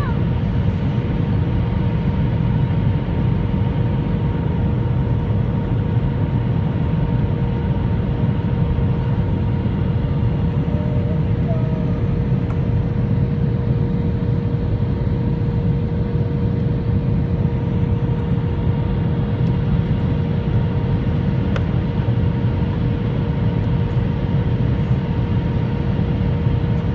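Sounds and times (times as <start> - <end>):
airliner cabin engine rumble: 0.0 - 26.9
constant hum-like tone: 0.0 - 26.9.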